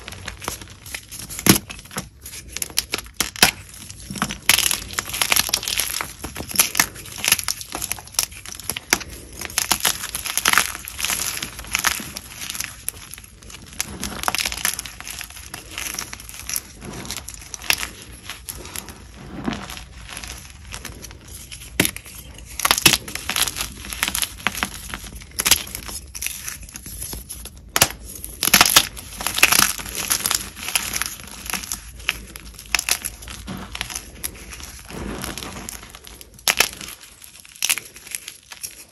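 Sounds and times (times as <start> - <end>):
chalk crunching as chewed: 0.2 - 38.9.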